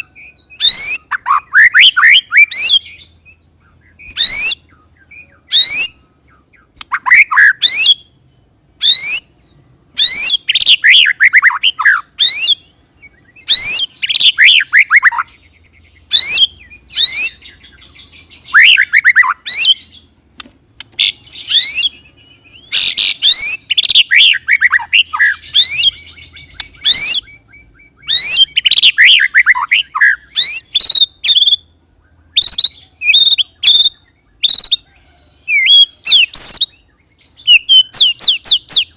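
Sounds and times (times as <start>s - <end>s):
songbird singing whistled notes: 0.0s - 38.9s.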